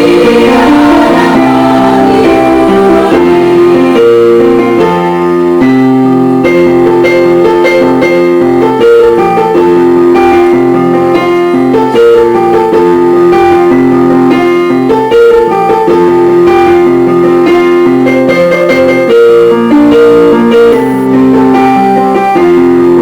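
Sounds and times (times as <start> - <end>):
held keyboard chords: 0.0 - 23.0.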